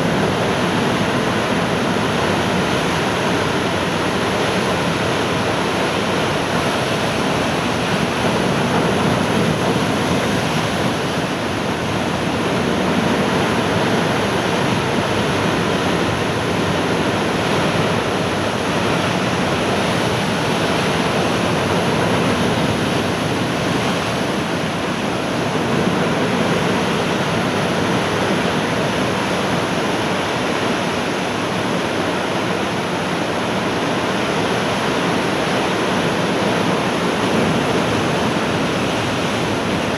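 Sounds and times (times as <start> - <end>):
heavy surf breaking on shore: 0.0 - 39.9.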